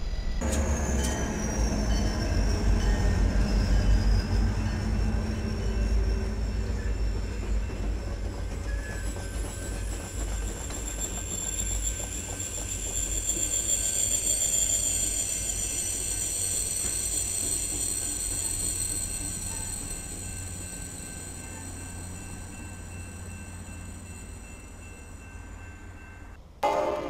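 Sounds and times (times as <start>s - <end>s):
wheel flanges squealing on rail: 0.0s - 26.4s
train rumbling past: 0.0s - 27.0s.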